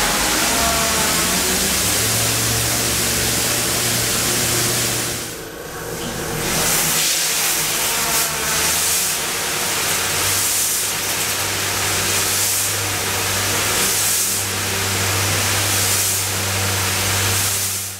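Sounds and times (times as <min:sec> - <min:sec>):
low machine hum: 0:00.0 - 0:17.9.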